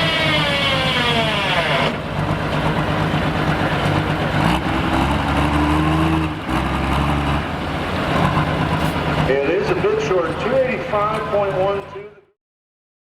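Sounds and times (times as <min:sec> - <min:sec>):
diesel engine whine falling: 0:00.0 - 0:12.2.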